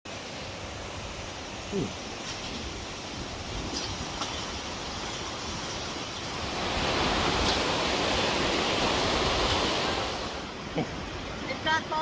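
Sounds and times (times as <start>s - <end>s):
steady rushing noise: 0.2s - 12.0s.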